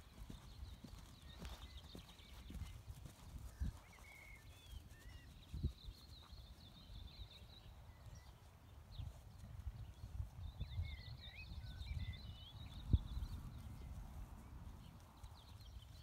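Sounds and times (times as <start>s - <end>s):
horse hooves thudding on grass: 0.0s - 10.4s, 12.7s - 16.0s.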